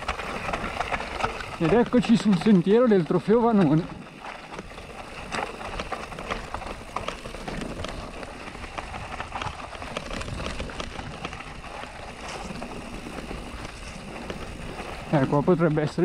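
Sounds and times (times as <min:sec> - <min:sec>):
bike rattling over stones: 0:00.0 - 0:16.0.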